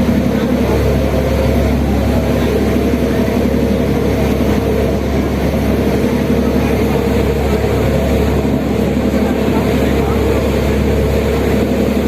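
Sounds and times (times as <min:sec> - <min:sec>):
boat engine drone: 0:00.0 - 0:12.0
water wash: 0:00.0 - 0:12.0.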